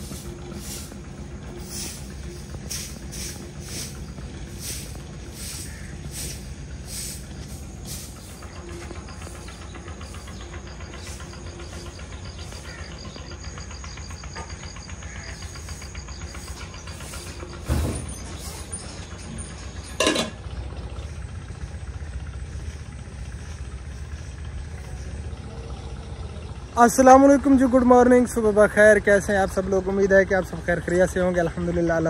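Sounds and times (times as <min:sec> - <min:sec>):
low rumble: 0:00.0 - 0:26.8.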